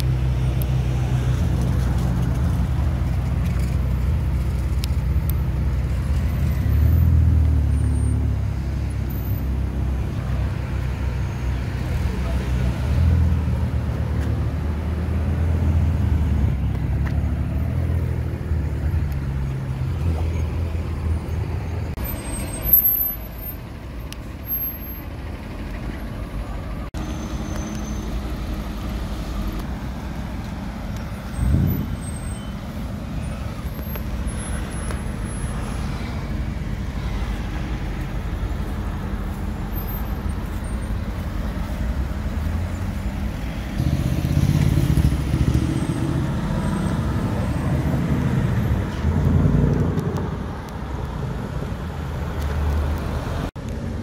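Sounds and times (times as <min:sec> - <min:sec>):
cars driving past: 0:00.0 - 0:54.0
traffic noise: 0:00.0 - 0:54.0.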